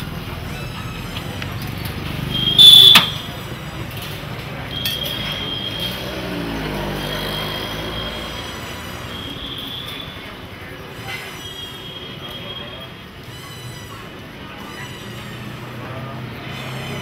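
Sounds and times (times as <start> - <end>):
busy market street noise: 0.0 - 17.0.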